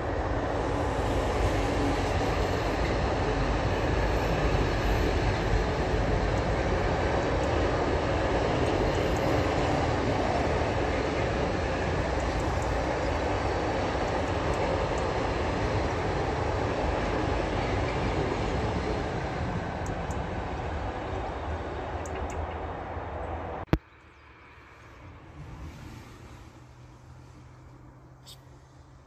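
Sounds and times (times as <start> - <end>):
freight train rolling past: 0.0 - 29.0
quiet outdoor ambience: 0.0 - 29.0.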